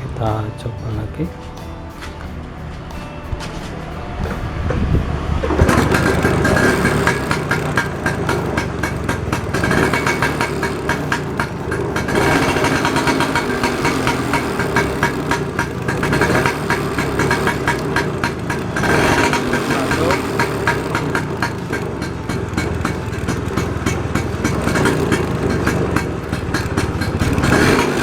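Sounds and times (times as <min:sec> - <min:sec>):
scooter engine starting and running: 0:01.4 - 0:28.0.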